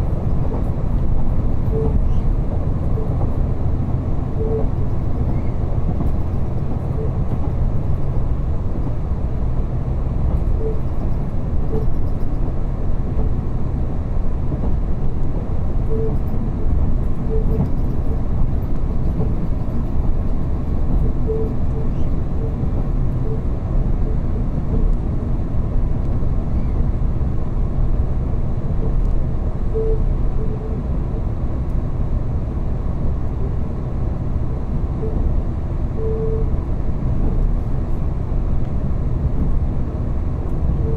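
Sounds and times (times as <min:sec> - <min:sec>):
train rumble from inside: 0:00.0 - 0:40.9.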